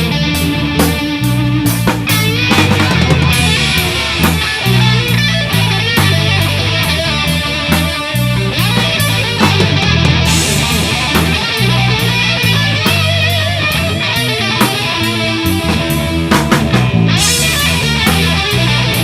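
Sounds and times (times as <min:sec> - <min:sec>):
bass guitar line: 0:00.0 - 0:19.0
drum kit with cymbal strokes: 0:00.0 - 0:19.0
electric guitar lead with vibrato: 0:00.0 - 0:19.0.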